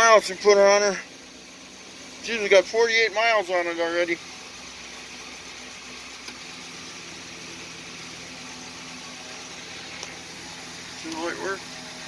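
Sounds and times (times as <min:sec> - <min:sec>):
steady hiss: 0:00.0 - 0:12.0
truck engine idling: 0:00.0 - 0:12.0.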